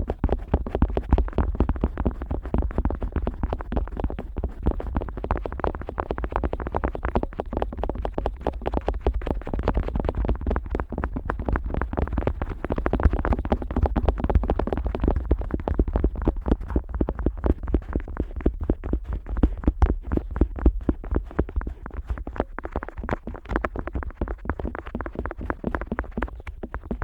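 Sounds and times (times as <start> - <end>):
scratchy rubbing against microphone: 0.0 - 27.0.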